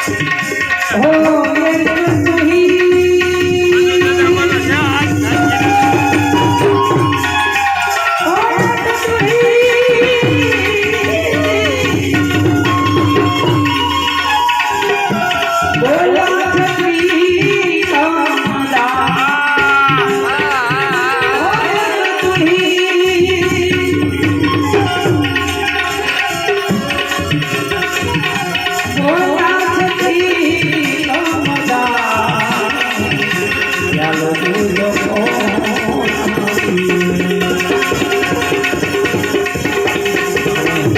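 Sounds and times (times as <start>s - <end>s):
tabla beat: 0.0s - 40.9s
ornamented melody line: 0.3s - 40.9s.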